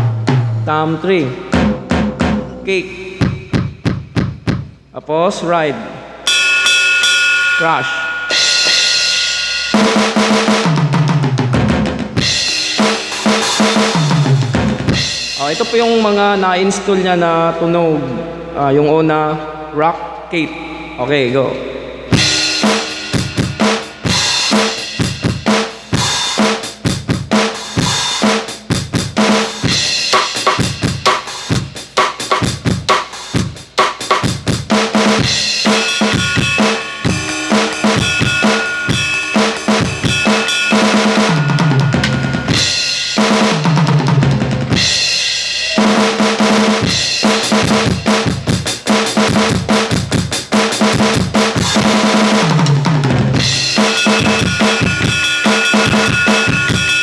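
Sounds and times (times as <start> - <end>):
tom fills: 0.0 - 57.0
electronic drum kit groove: 1.5 - 4.9, 7.0 - 16.5, 21.4 - 57.0.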